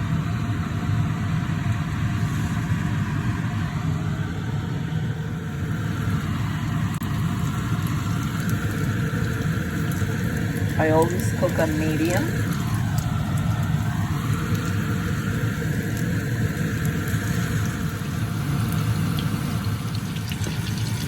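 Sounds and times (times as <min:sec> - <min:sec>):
low rumbling hum: 0:00.0 - 0:21.0.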